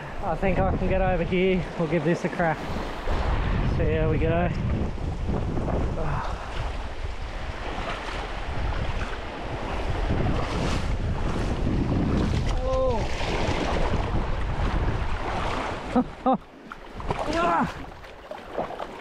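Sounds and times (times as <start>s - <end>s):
surf on rocky shore: 0.0s - 19.0s
wind buffeting microphone: 0.0s - 19.0s.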